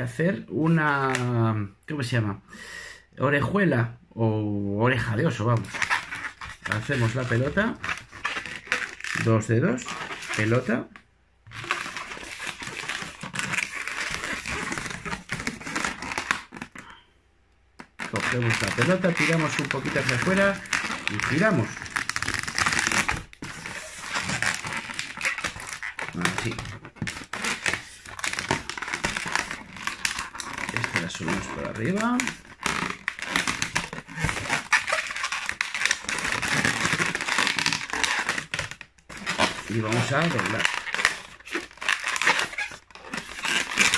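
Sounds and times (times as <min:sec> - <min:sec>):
balloon rubbing and crinkling: 0:00.0 - 0:01.4, 0:04.9 - 0:17.1, 0:17.8 - 0:43.9.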